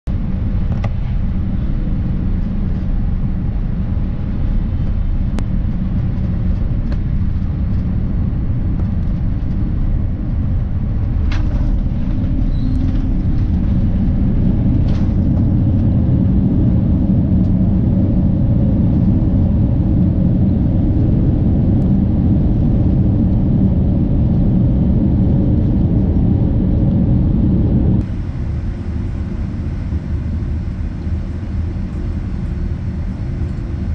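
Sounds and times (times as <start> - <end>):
vehicle rumble from inside: 0.0 - 33.9.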